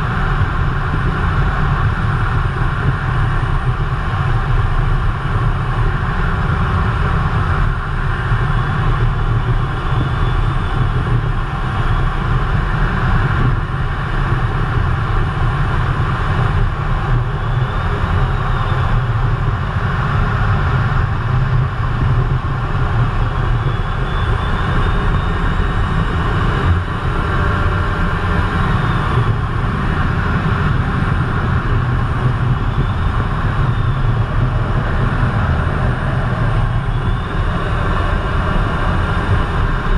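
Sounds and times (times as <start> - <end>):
faint high whine: 0.0 - 39.9
jet cockpit engine noise: 0.0 - 39.9.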